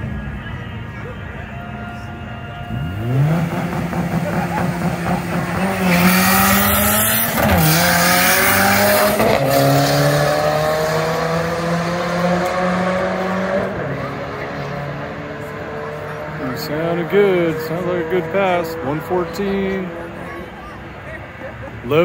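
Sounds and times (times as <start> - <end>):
turbocharged car engine accelerating: 2.6 - 22.0.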